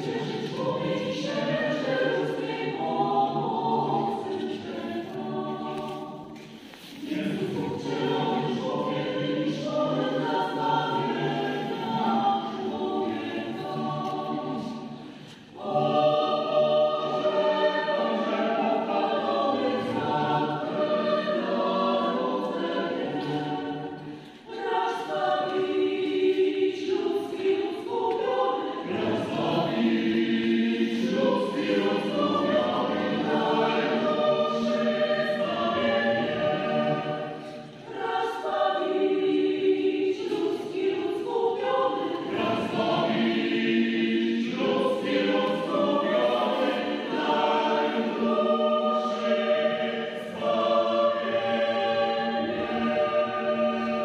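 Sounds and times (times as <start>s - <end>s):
choir singing a carol: 0.0s - 54.0s.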